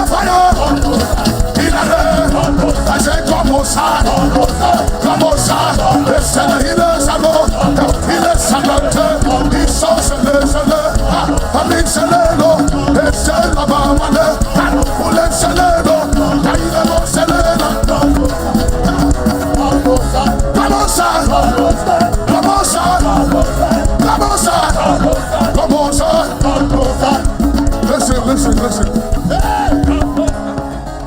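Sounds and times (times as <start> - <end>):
band playing worship music: 0.0 - 31.0
many voices singing: 0.0 - 31.0.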